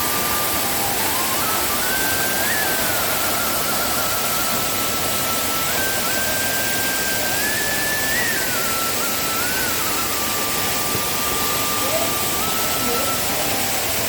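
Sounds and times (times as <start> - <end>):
faint thin melody: 0.0 - 14.0
waterfall roar: 0.0 - 14.0.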